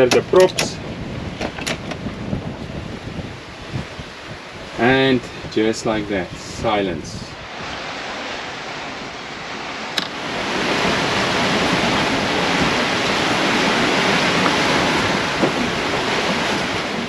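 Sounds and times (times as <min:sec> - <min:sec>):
water rushing along boat hulls: 0:00.0 - 0:17.0
wind: 0:00.0 - 0:17.0.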